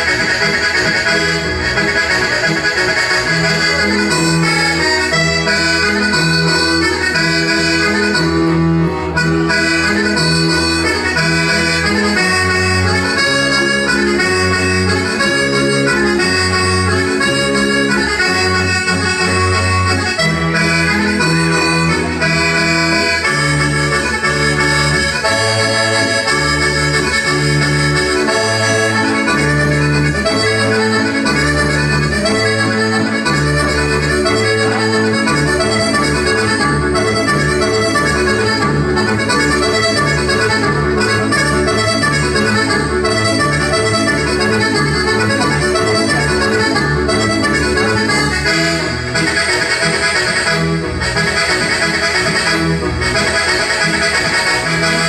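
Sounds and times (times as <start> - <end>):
button accordion dance tune: 0.0 - 55.0.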